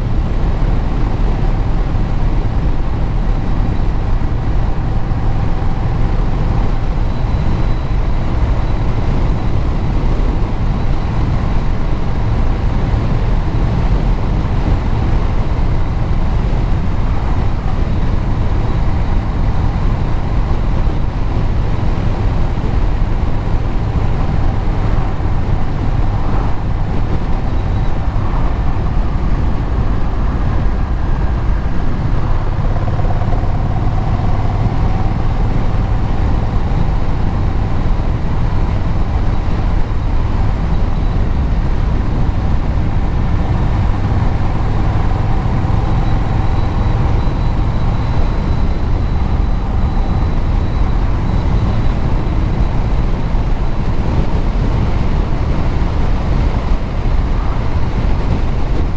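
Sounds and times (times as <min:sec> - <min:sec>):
road noise: 0:00.0 - 0:58.9
vehicle engine and exhaust: 0:00.0 - 0:58.9.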